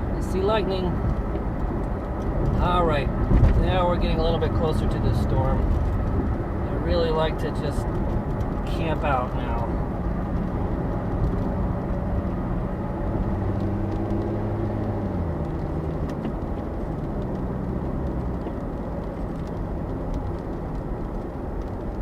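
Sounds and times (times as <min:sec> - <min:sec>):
car engine hum: 0:00.0 - 0:22.0
tyre and wind noise: 0:00.0 - 0:22.0.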